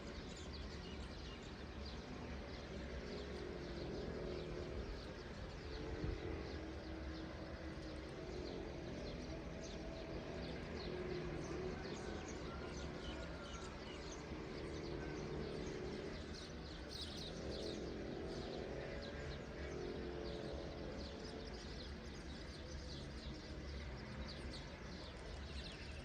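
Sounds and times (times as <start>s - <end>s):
small songbirds chirping: 0.0s - 26.0s.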